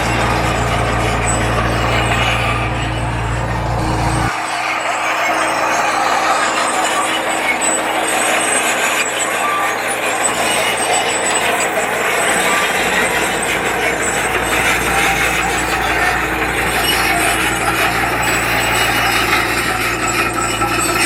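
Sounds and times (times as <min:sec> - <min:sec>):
heavy construction machinery running: 0:00.0 - 0:21.0.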